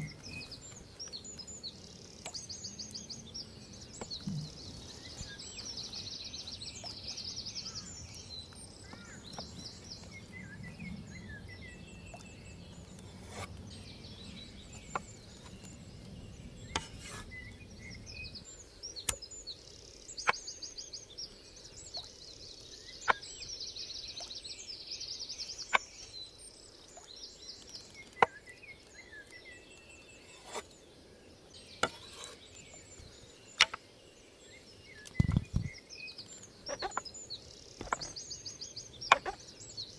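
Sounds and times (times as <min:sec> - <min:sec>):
songbirds singing in trills: 0:00.0 - 0:39.9.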